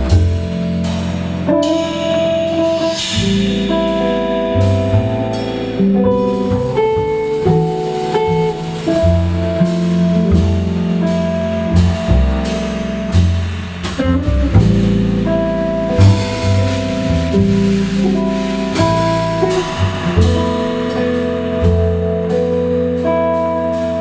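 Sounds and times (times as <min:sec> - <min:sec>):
bass line: 0:00.0 - 0:24.0
drum kit with cymbals: 0:00.0 - 0:24.0
melody of held notes: 0:00.0 - 0:24.0.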